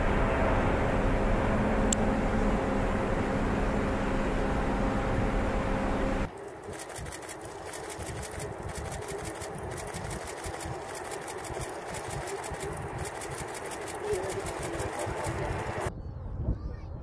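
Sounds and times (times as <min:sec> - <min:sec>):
jet engines roaring at takeoff: 0:00.0 - 0:15.9.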